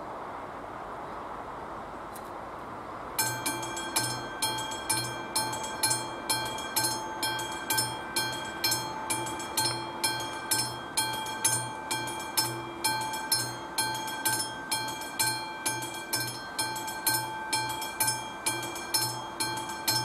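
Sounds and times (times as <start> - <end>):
level crossing bell ringing: 3.2 - 20.0.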